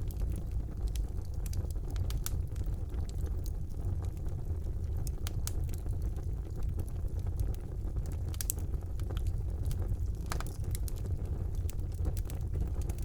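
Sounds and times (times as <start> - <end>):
fire crackles and pops: 0.0 - 13.0
fire roaring in fireplace: 0.0 - 13.0.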